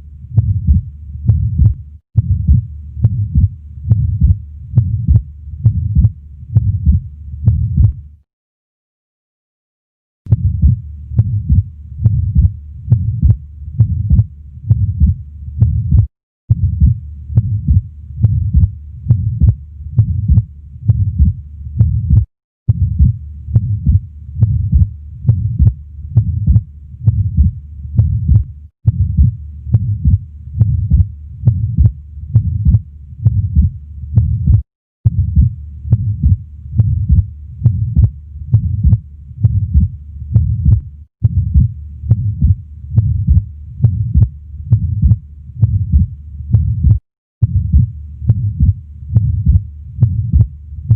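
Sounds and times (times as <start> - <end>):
low heartbeats: 0.0 - 8.1, 10.3 - 50.9
heart murmur: 0.4 - 8.0, 10.3 - 50.5.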